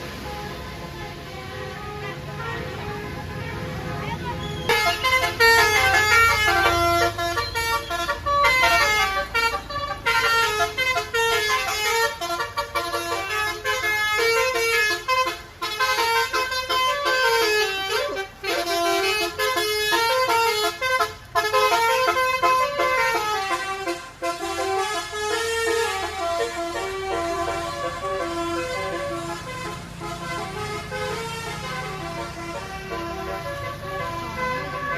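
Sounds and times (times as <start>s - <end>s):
air horn playing melodies: 0.0s - 34.9s.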